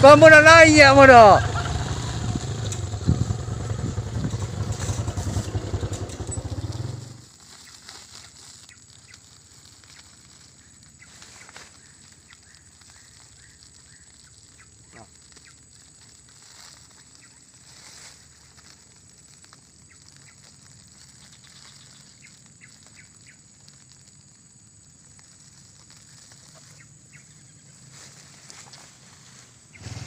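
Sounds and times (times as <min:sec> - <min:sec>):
plastic sack crinkling: 0:03.6 - 0:29.8.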